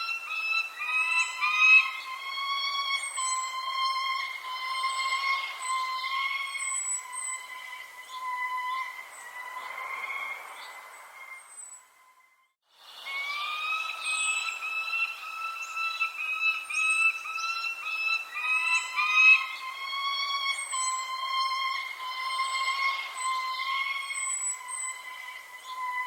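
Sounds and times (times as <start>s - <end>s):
high bird chirps: 0.0s - 12.2s, 13.0s - 26.0s
bird whistling notes: 0.0s - 12.3s, 12.9s - 26.0s.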